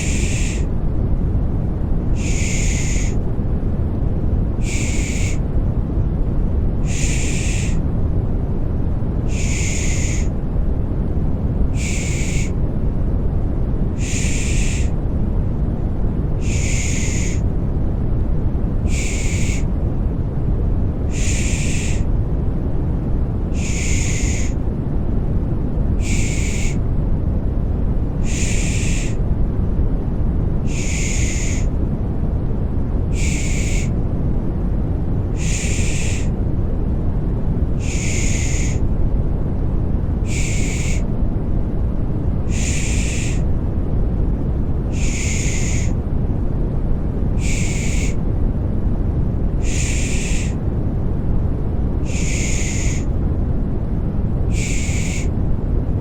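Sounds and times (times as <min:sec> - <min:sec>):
deep white noise: 0:00.0 - 0:56.0.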